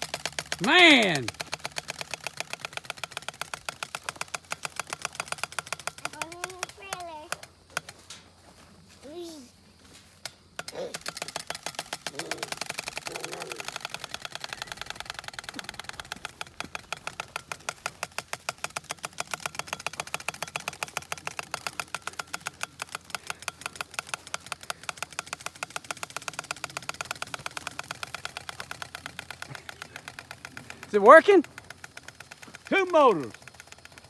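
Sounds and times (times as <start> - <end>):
flaps clattering against spokes: 0.0 - 34.0.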